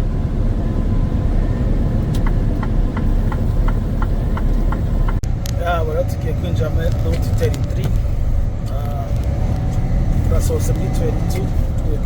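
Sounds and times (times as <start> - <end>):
truck engine and road rumble: 0.0 - 12.0
turn signal ticking: 2.0 - 12.0.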